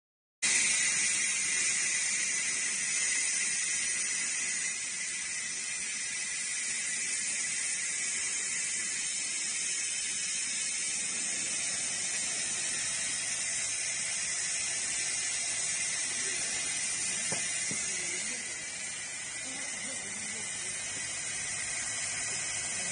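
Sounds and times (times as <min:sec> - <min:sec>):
laser cleaning machine hissing: 0:00.4 - 0:22.9.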